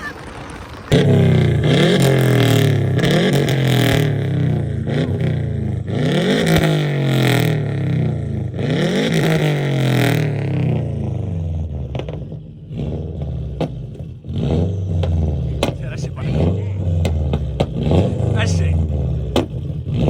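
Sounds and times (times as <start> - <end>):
car engine revving: 0.1 - 20.0.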